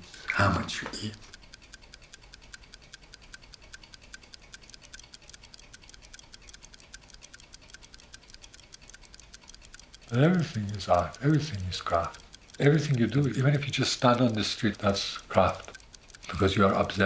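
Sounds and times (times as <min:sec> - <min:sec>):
mechanical watch ticking: 0:00.0 - 0:17.0.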